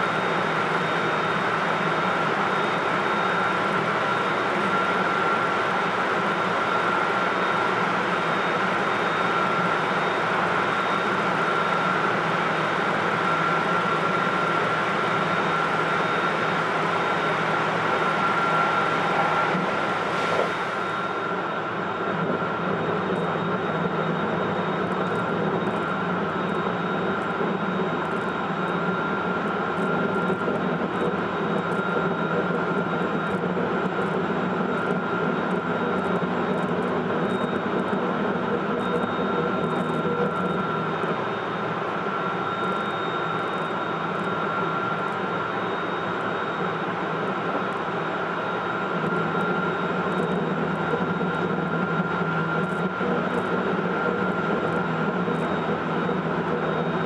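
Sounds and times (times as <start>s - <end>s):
traction motor whine: 0.0s - 57.0s.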